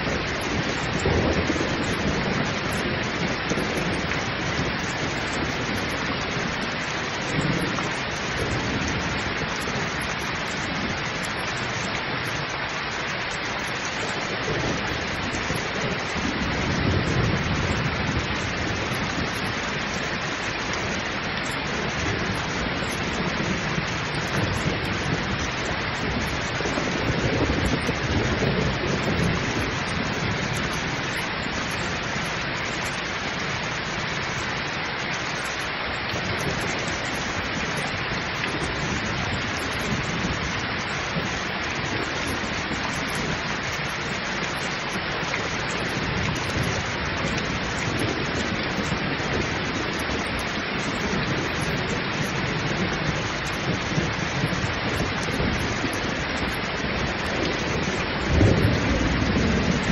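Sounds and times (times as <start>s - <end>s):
heavy rain pouring: 0.0s - 59.9s
low rolls of thunder: 0.0s - 59.9s.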